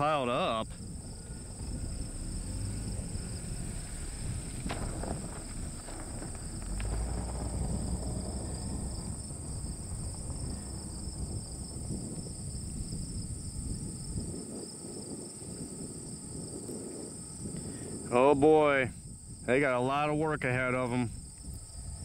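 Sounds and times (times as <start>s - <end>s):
insects chirring: 0.0s - 22.0s
low rumbling noise: 0.0s - 22.0s.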